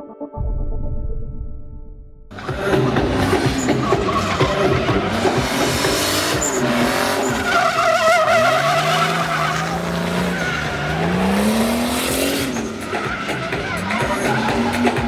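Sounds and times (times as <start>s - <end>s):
car engine revving: 2.3s - 15.0s
tyres squealing: 2.6s - 15.0s.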